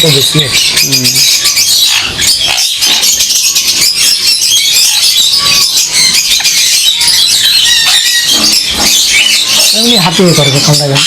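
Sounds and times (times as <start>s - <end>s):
parrots squawking: 0.0s - 11.0s.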